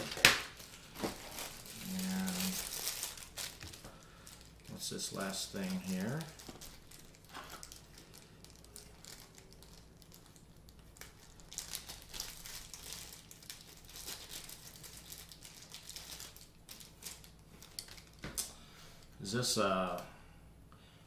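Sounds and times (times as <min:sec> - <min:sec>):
plastic bag crinkling: 0:00.0 - 0:18.5.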